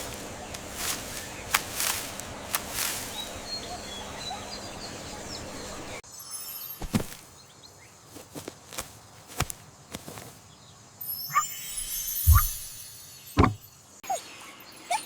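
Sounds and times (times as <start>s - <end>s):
small birds chirping: 0.0s - 6.0s, 6.6s - 15.0s.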